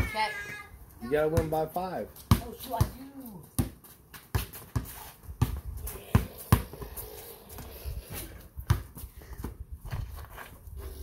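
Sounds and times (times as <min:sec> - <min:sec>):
basketball bouncing on concrete: 0:01.2 - 0:10.2.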